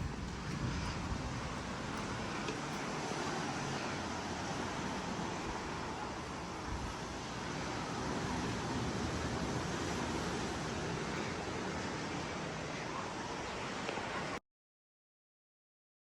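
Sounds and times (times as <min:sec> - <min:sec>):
wind on microphone: 0:00.0 - 0:14.2
distant ocean surf: 0:00.0 - 0:14.4.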